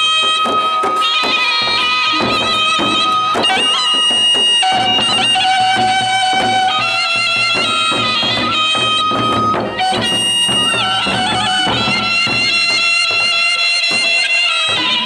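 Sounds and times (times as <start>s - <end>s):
bamboo flute melody: 0.0s - 15.0s
percussion beat: 0.0s - 15.0s.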